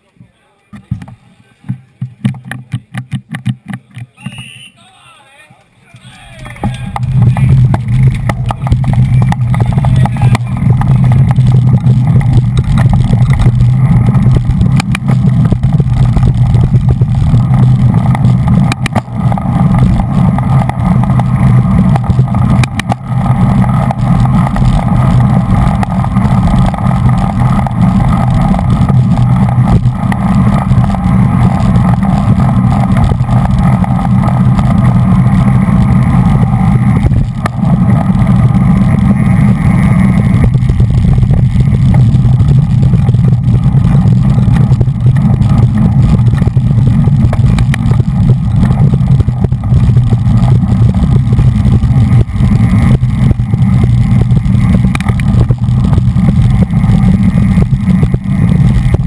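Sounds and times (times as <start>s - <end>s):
wind buffeting microphone: 6.3s - 59.0s.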